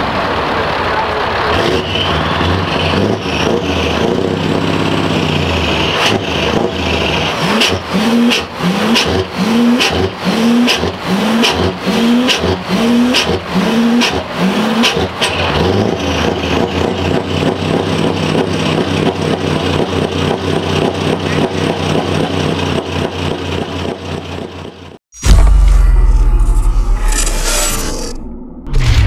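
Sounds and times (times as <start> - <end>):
truck engine revving and idling: 0.0 - 25.0.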